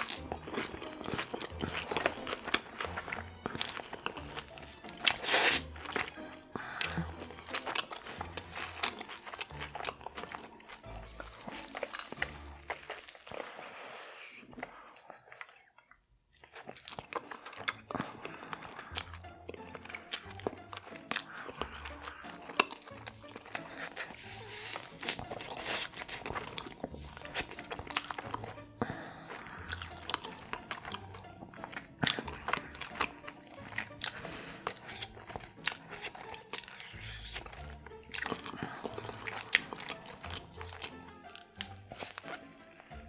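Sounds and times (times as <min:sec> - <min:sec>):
crunchy chewing: 0:00.0 - 0:43.0.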